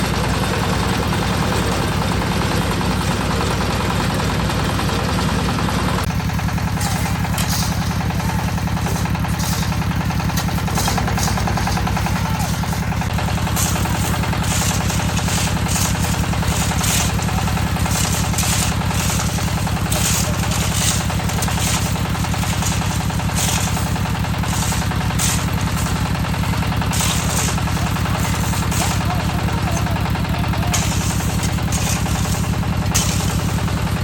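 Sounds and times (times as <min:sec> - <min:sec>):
concrete mixer engine running: 0:00.0 - 0:34.0
short noisy bursts: 0:06.1 - 0:34.0.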